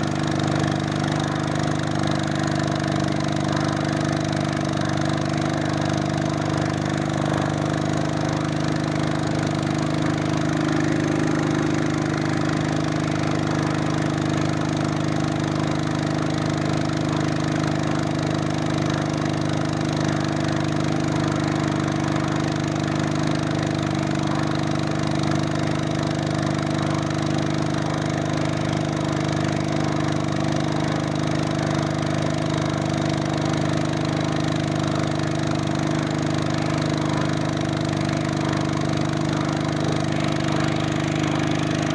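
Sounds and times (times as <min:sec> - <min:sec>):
small engine running steadily: 0:00.0 - 0:41.9.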